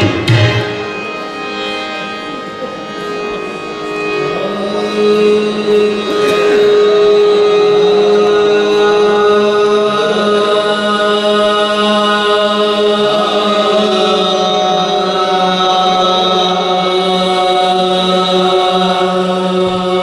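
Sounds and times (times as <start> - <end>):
voices holding sustained notes: 0.0 - 20.0.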